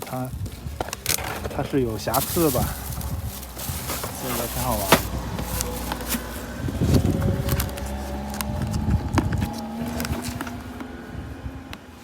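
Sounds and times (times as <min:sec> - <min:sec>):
clicks and handling thumps: 0:00.0 - 0:10.9.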